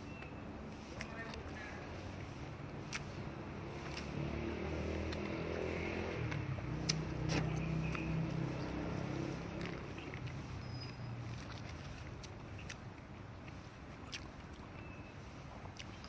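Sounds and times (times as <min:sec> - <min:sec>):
passing vehicle engine hum: 0:00.0 - 0:13.8.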